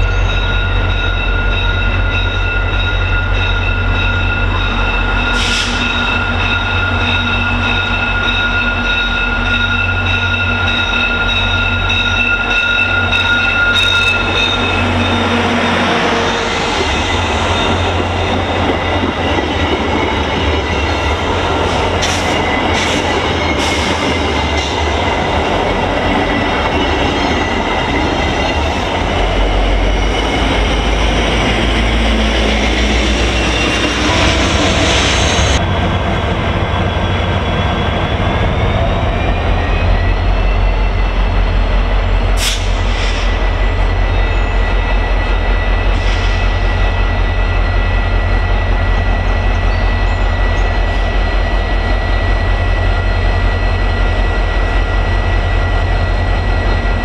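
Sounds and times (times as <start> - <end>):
diesel locomotive rumble: 0.0 - 57.0
train wheel and rail noise: 0.0 - 57.0.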